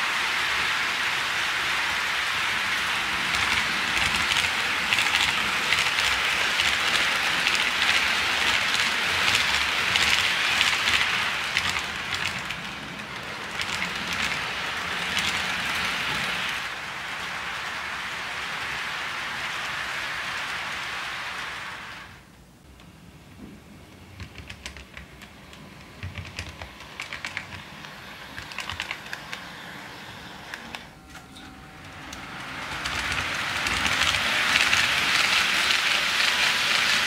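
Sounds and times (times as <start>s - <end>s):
model train wheels rattling on rails: 0.0s - 22.2s, 23.8s - 37.0s.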